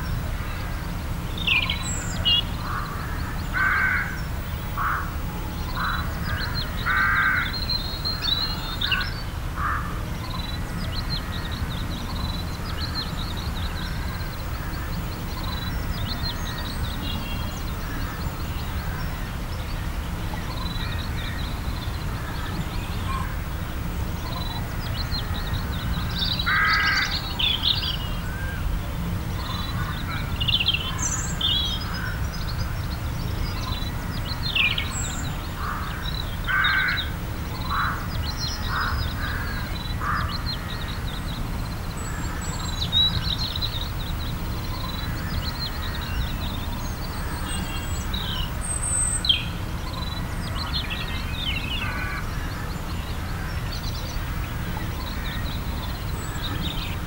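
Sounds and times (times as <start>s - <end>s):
birds calling and chirping: 0.0s - 57.0s.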